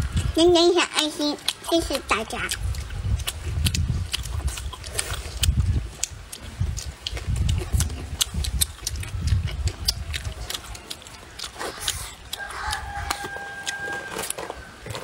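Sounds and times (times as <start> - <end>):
chewing and lip-smacking: 0.0 - 0.4, 1.0 - 15.0.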